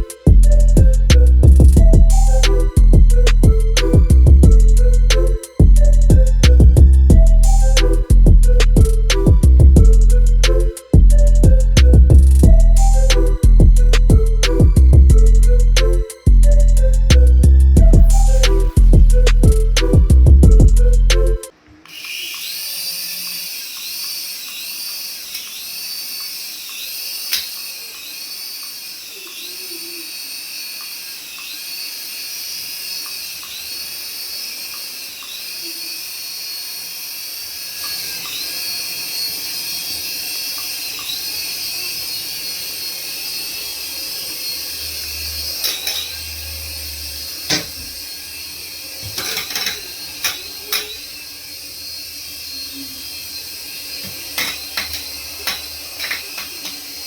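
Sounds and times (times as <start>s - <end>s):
toy electric motor whining: 0.0s - 57.0s.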